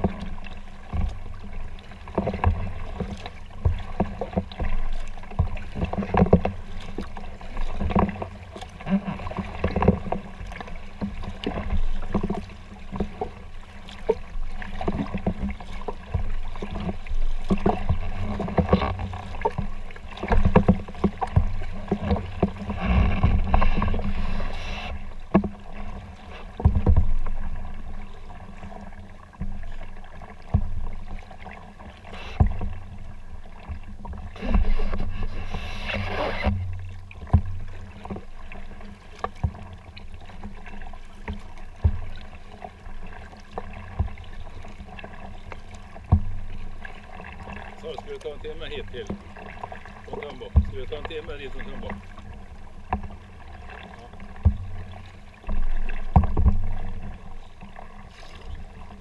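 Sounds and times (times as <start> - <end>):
paddle splashing in water: 0.0 - 59.0
water sloshing against hull: 0.0 - 59.0.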